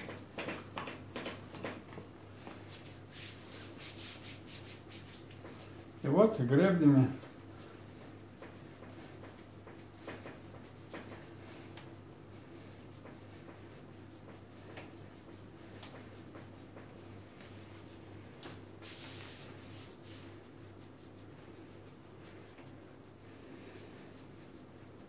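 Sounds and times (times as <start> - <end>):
hands rubbing skin: 0.0 - 6.0, 6.8 - 25.0
steady low hum: 0.0 - 25.0.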